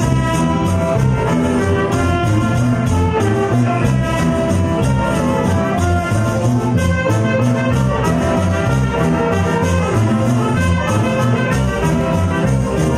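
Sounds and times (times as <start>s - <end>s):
latin band playing: 0.0s - 12.9s
saxophone melody: 0.0s - 12.9s.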